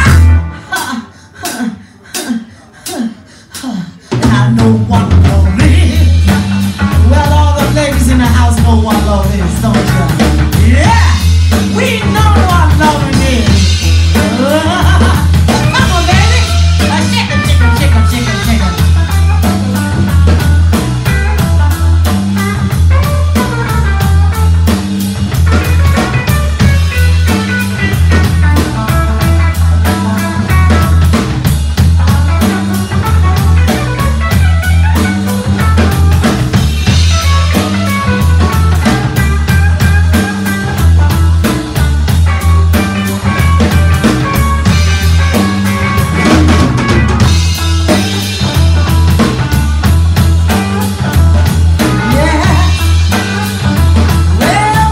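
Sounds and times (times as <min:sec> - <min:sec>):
electric guitar: 0:00.0 - 0:01.4, 0:04.2 - 0:54.9
bass guitar: 0:00.0 - 0:01.7, 0:04.0 - 0:54.9
drum kit beat: 0:00.0 - 0:54.9.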